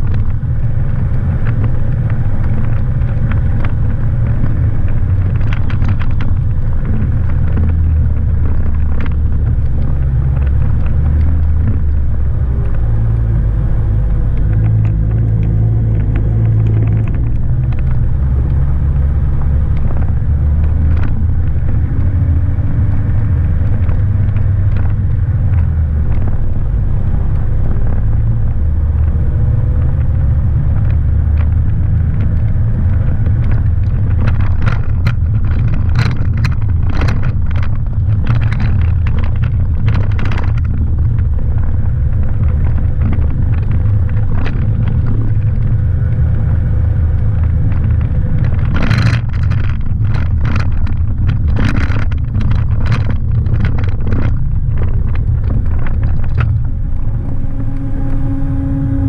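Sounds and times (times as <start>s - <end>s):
gravel clicks and knocks: 0.0s - 59.0s
vehicle engine and tyres rumbling: 0.0s - 59.0s.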